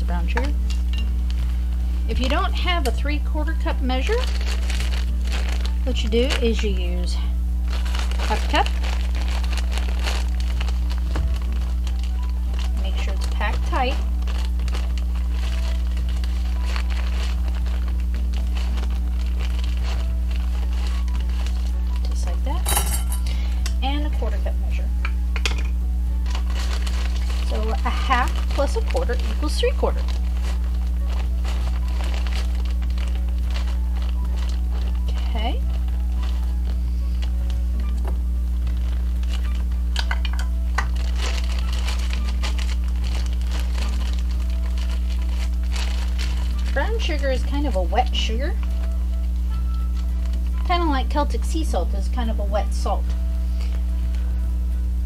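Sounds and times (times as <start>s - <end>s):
low electrical hum: 0.0s - 55.0s
plastic bag crinkling: 0.6s - 23.6s, 26.1s - 54.4s.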